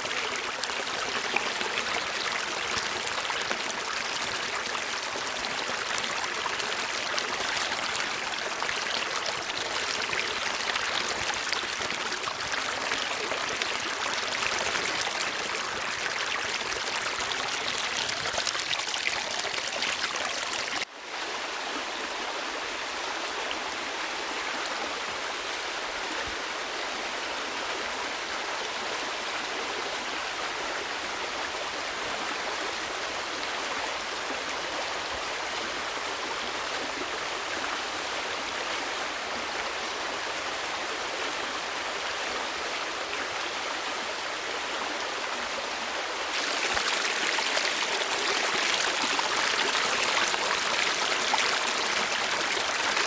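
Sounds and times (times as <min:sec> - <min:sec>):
running water: 0:00.0 - 0:20.9, 0:29.7 - 0:53.0.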